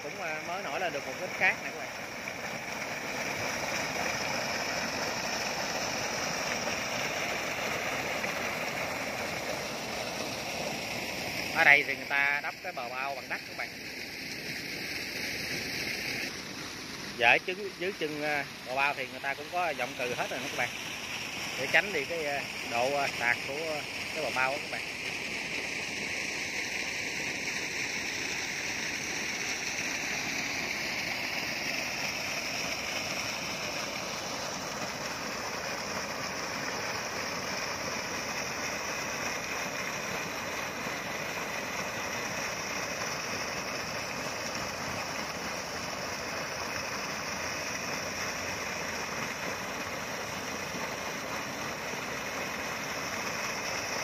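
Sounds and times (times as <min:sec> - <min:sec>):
slurry gushing from pipe: 0:00.0 - 0:13.9, 0:17.1 - 0:54.0
water splashing into muddy pool: 0:00.0 - 0:54.0.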